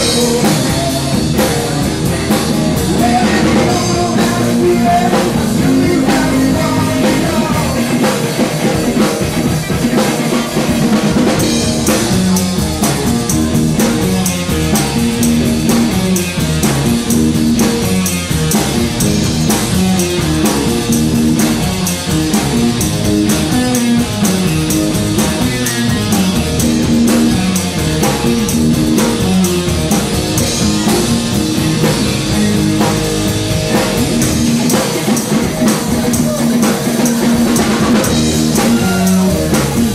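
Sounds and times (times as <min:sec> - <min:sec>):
bass line: 0:00.0 - 0:39.9
drum kit beat: 0:00.0 - 0:39.9
electric guitar: 0:00.0 - 0:39.9
rock band playing live: 0:00.0 - 0:39.9.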